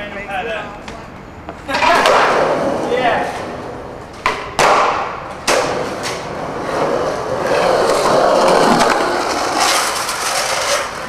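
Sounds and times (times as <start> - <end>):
skateboard wheels rolling: 1.4 - 11.0
skateboard clacking on concrete: 1.8 - 11.0.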